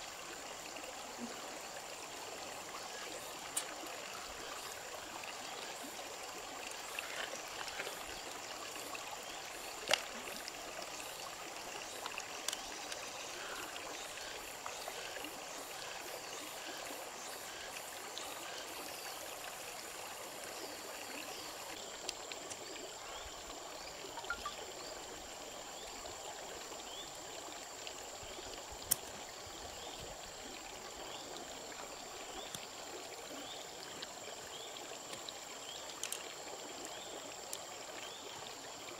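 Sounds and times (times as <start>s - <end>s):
stream running over stones: 0.0s - 38.9s.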